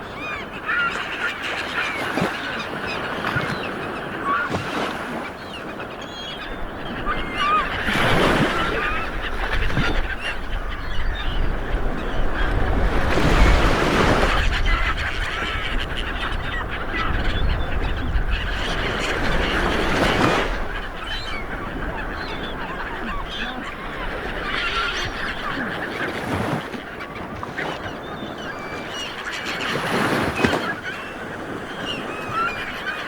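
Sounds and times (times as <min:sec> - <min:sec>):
birds calling: 0:00.0 - 0:33.0
sea waves washing ashore: 0:00.0 - 0:33.0.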